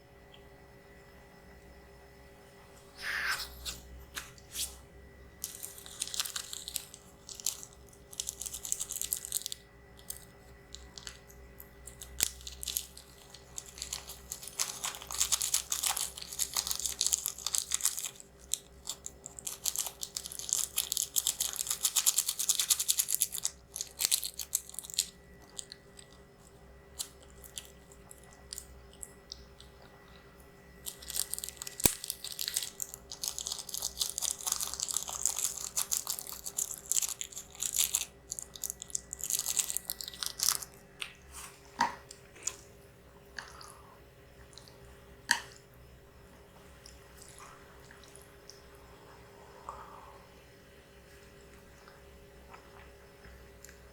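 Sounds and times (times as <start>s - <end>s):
person chewing noodles: 5.4s - 45.6s, 46.2s - 53.9s.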